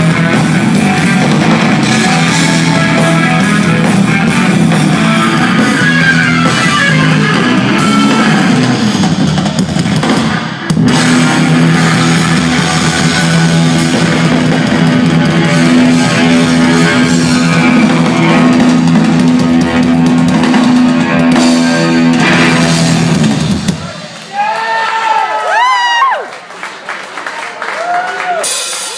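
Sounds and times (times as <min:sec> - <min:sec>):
electric guitar: 0:00.0 - 0:24.3
bass guitar: 0:00.0 - 0:24.5
drum kit: 0:00.0 - 0:25.7, 0:28.3 - 0:28.9.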